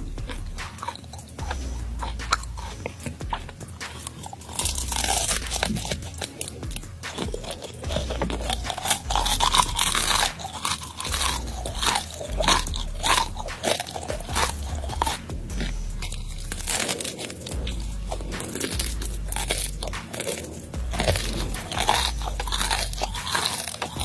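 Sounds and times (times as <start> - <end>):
crisp chewing crunches: 0.0 - 24.0.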